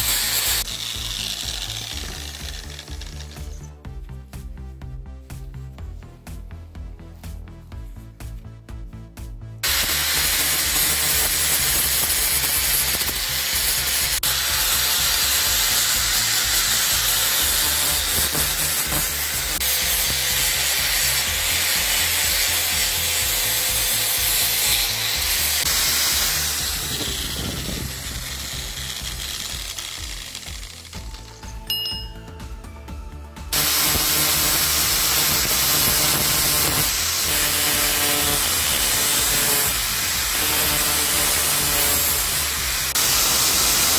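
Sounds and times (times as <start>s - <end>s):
angle grinder grinding steel: 0.0s - 3.8s, 9.6s - 32.4s, 33.5s - 43.9s.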